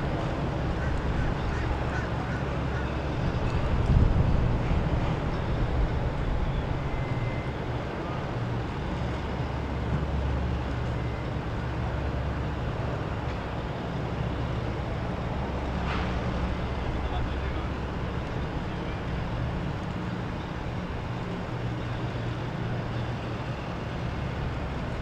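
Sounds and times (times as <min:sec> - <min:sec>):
motorboat engines rumbling: 0:00.0 - 0:25.0.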